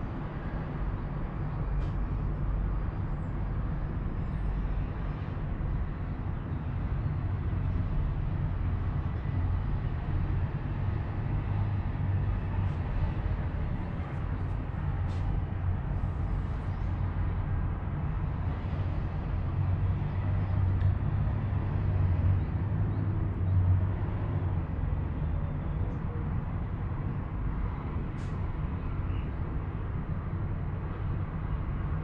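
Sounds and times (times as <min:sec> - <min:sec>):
cable car gondola rumble: 0:00.0 - 0:32.0.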